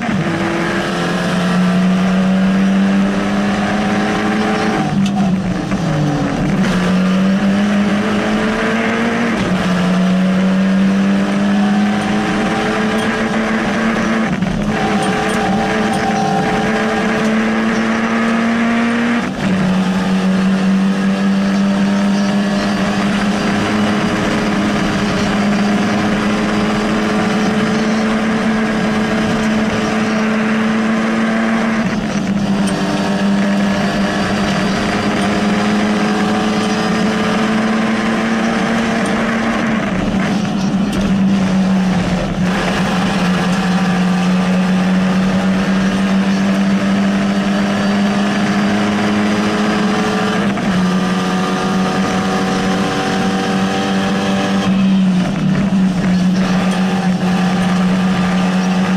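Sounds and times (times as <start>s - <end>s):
rally car engine revving: 0.0s - 58.9s
tyre and road noise: 0.0s - 58.9s.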